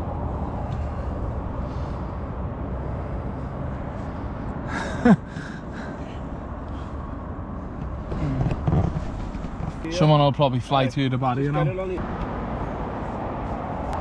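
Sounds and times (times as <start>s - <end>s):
motorway traffic rumble: 0.0s - 14.0s.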